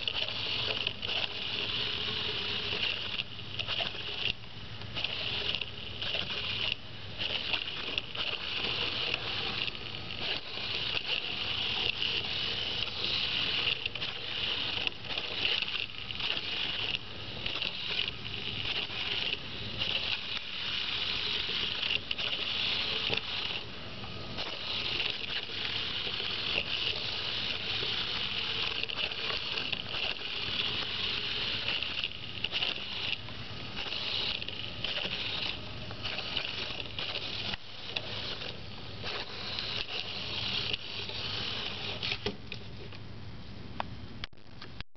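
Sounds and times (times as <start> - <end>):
small gearmotors whining: 0.0 - 42.4.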